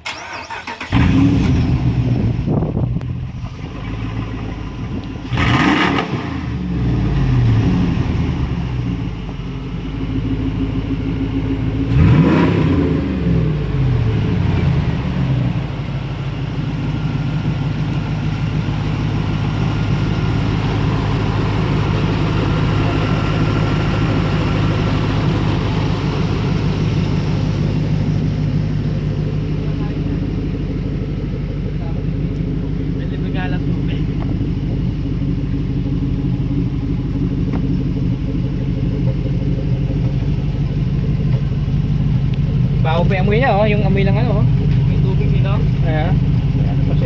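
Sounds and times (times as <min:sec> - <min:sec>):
truck engine revving and idling: 0:00.0 - 0:47.0.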